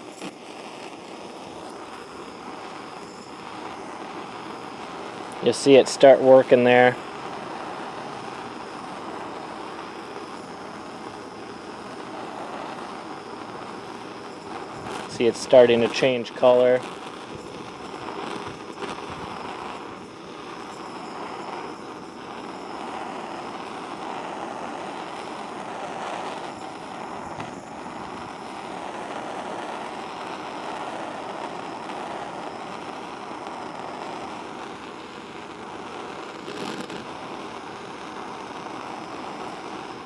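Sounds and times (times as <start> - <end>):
blowtorch flame hissing: 0.0 - 40.0.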